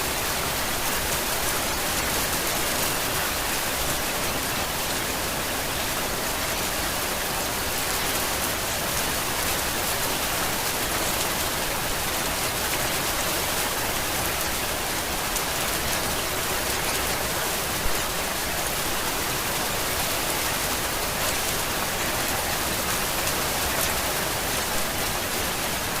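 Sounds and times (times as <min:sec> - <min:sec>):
rainfall: 0:00.0 - 0:26.0.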